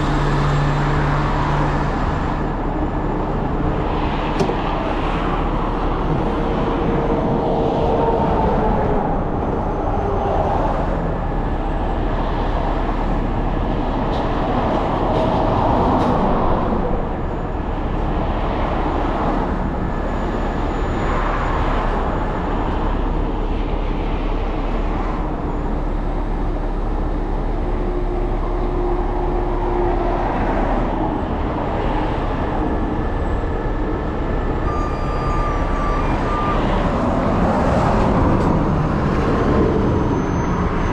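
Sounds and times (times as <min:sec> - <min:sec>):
vehicle engine and road noise: 0:00.0 - 0:40.9.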